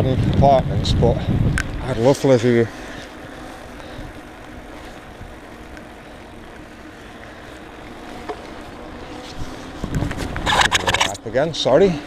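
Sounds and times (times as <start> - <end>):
bicycle rolling on wet path: 0.1 - 12.0.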